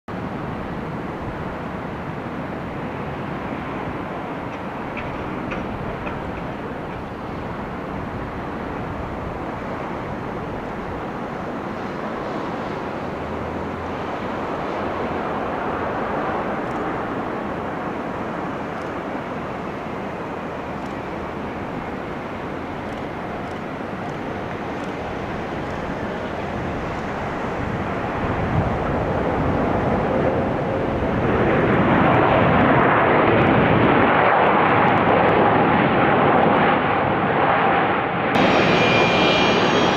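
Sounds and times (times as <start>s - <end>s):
airplane engines rushing: 0.1s - 39.9s.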